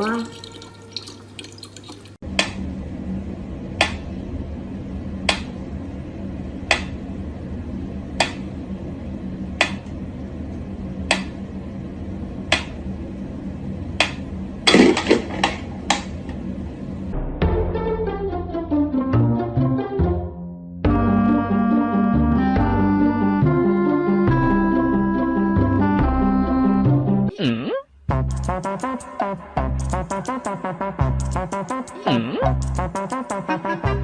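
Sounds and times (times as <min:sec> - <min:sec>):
steady low hum: 0:02.2 - 0:18.2, 0:20.9 - 0:34.0.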